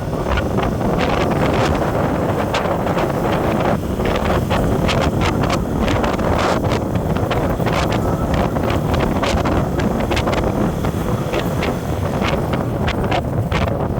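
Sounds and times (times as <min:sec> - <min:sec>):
vehicle rumble: 0:00.0 - 0:13.9
wind buffeting microphone: 0:00.0 - 0:13.9.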